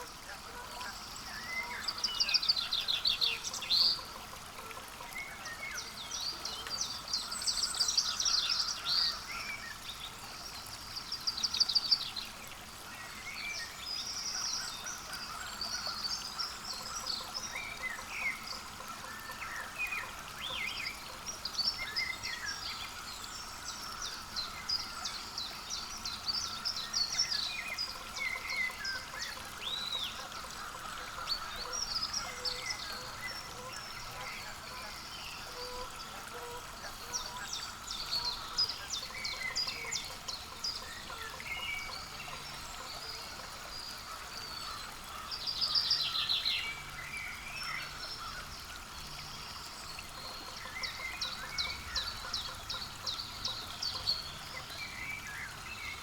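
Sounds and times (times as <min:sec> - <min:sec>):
songbirds singing and chirping: 0:00.1 - 0:56.0.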